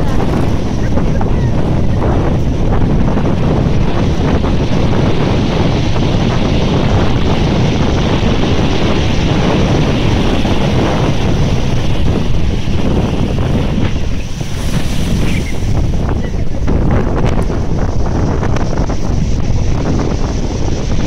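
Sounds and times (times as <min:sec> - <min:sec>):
surf breaking on shingle beach: 0:00.0 - 0:18.2
wind buffeting microphone: 0:00.0 - 0:21.0.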